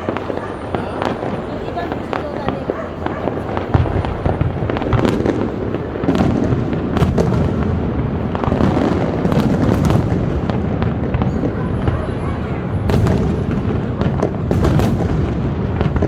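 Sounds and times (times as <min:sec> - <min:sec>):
fireworks booming: 0:00.0 - 0:16.0
fireworks cracking and crackling: 0:00.0 - 0:16.0.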